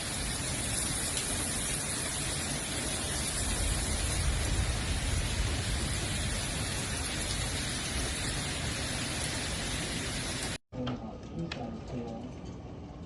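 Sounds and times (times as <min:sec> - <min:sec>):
heavy rain hiss: 0:00.0 - 0:10.6
low thunder rumble: 0:00.0 - 0:10.6.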